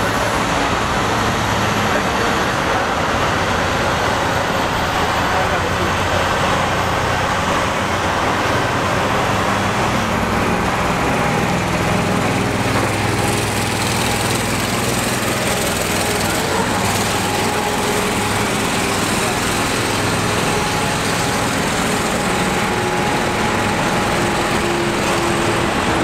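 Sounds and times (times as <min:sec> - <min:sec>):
diesel truck engine running: 0:00.0 - 0:26.0
street traffic noise: 0:00.0 - 0:26.0.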